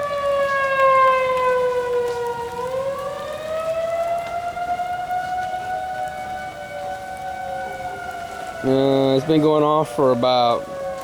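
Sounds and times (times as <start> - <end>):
warning sirens wailing: 0.0 - 11.0.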